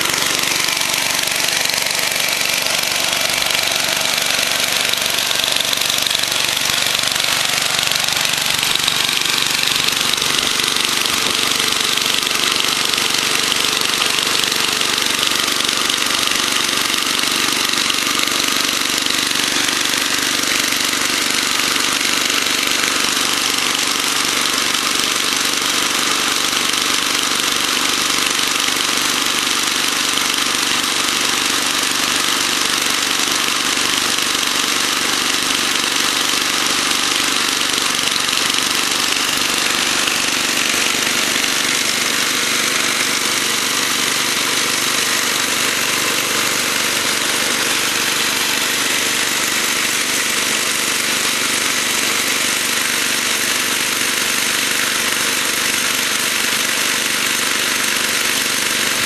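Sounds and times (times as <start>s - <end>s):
dense mechanical rattle: 0.0s - 59.0s
snowblower engine running: 0.0s - 59.0s.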